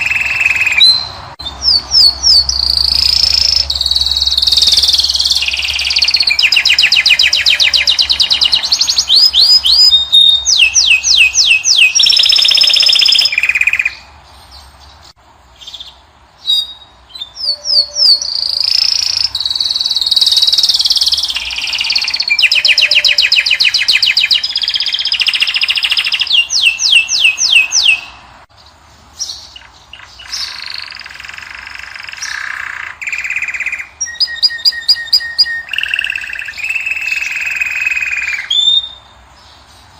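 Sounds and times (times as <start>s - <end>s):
birds singing trills: 0.0s - 39.9s.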